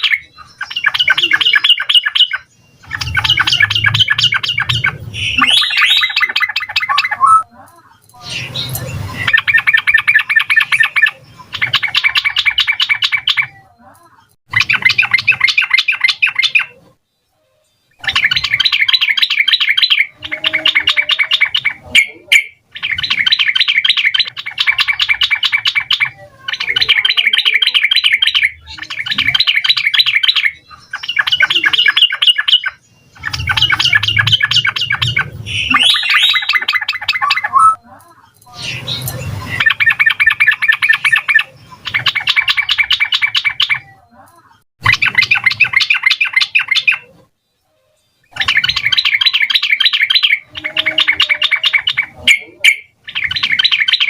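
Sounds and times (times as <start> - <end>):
bird rapid chattering song: 0.0 - 7.5, 8.2 - 13.7, 14.5 - 16.9, 17.9 - 44.1, 44.8 - 47.3, 48.3 - 54.0.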